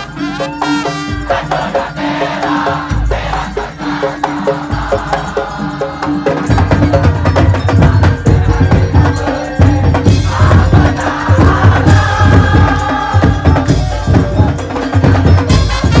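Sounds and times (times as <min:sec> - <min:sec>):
heavy low drum pattern: 0:00.0 - 0:16.0
slit drum ensemble: 0:00.0 - 0:16.0.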